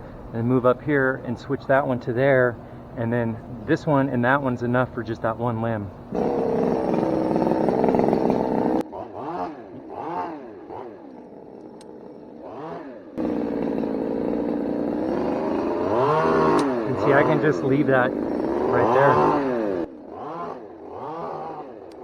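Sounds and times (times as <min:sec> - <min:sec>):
chainsaw engine running: 0:00.0 - 0:22.0.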